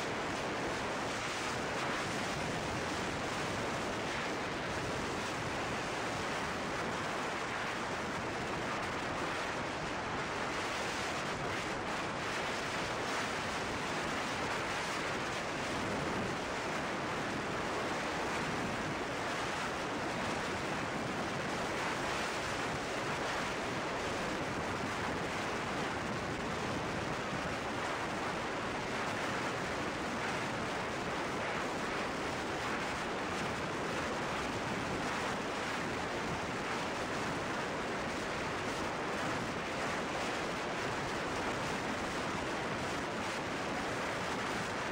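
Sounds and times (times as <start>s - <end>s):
wind rushing on microphone: 0.0s - 44.9s.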